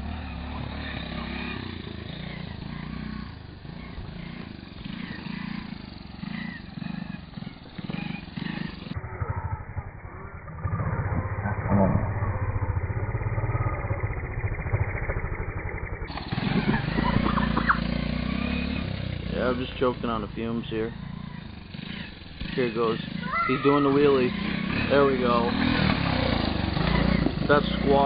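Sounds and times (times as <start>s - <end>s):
four-stroke engine running: 0.0s - 28.0s.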